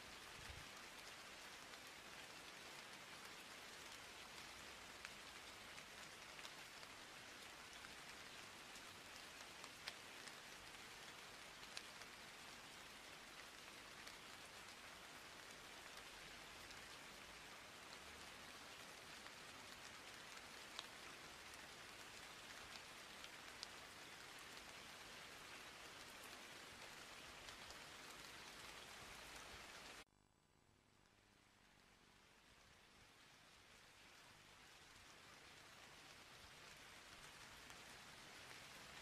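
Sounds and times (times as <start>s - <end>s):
faint steady hiss: 0.0s - 39.0s.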